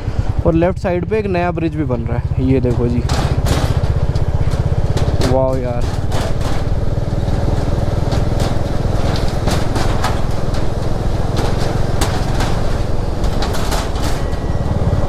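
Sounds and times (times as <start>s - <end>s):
motorcycle engine running: 0.0s - 15.0s
tyres clanking on metal plates: 1.4s - 15.0s.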